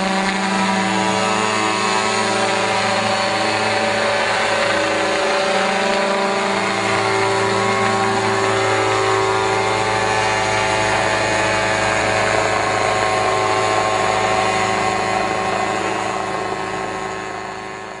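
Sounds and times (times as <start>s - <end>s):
small engine running steadily: 0.0s - 18.0s.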